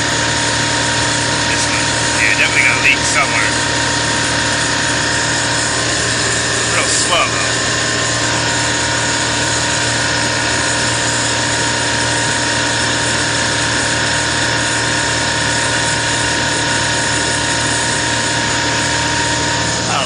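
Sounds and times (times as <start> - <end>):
refrigeration compressor running: 0.0 - 20.0.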